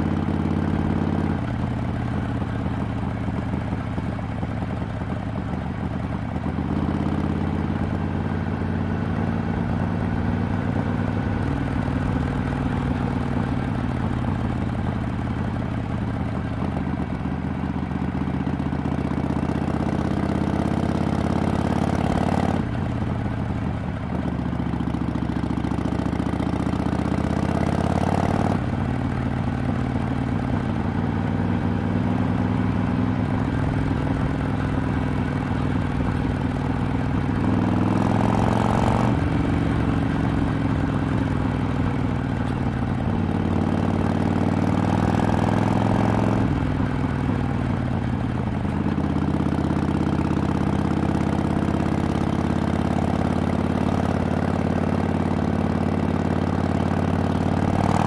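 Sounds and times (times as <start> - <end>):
motorcycle engine revving: 0.0 - 23.4, 24.2 - 58.0.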